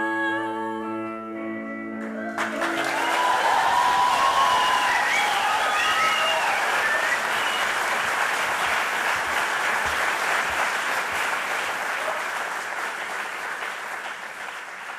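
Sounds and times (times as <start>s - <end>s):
audience applauding: 2.0s - 14.9s.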